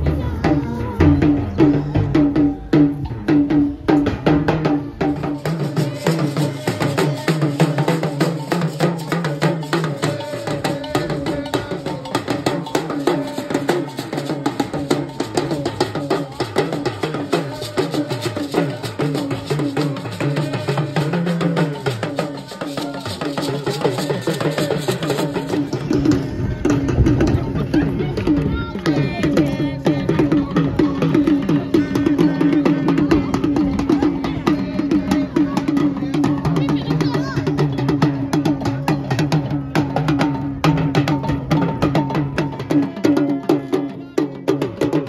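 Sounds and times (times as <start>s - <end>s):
music with percussive beat: 0.0s - 45.0s.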